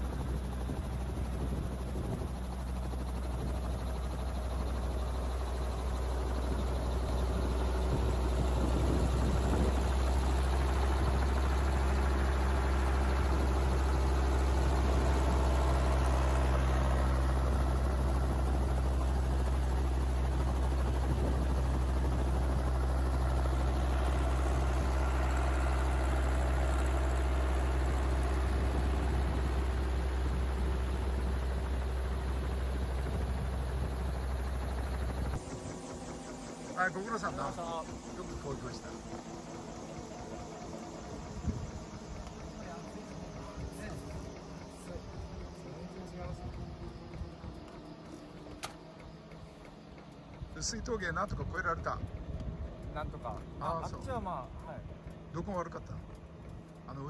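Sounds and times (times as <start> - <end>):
helicopter idling drone: 0.0 - 57.0.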